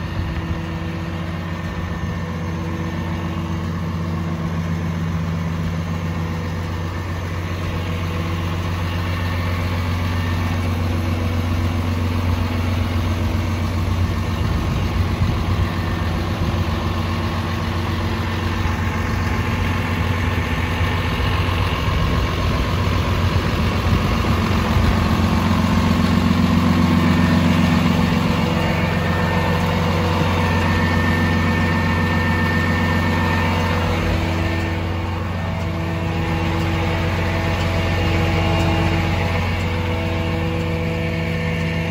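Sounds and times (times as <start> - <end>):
diesel truck engine idling: 0.0 - 41.9.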